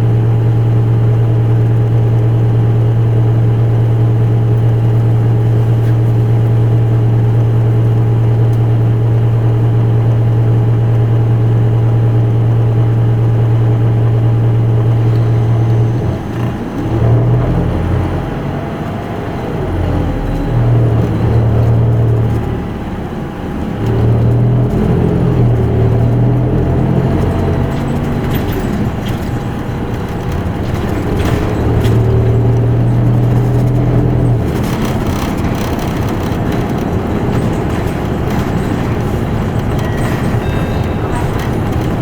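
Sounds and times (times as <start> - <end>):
bus diesel engine droning: 0.0 - 42.0
road and running noise: 0.0 - 42.0.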